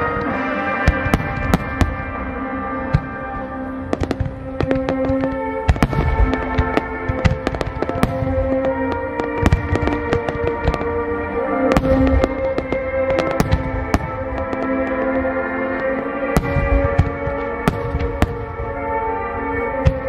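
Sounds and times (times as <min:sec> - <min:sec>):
fireworks bursting and crackling: 0:00.0 - 0:20.0
music with long held notes: 0:00.0 - 0:20.0.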